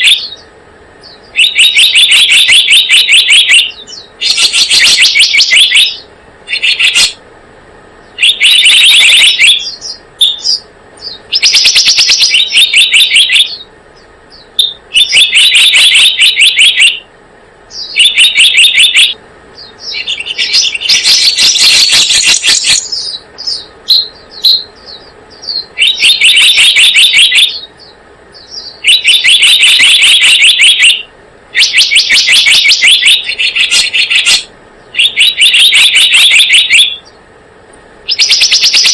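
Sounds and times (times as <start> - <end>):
bird chattering trills: 0.0 - 7.2, 8.0 - 17.1, 17.7 - 37.3, 38.0 - 38.9.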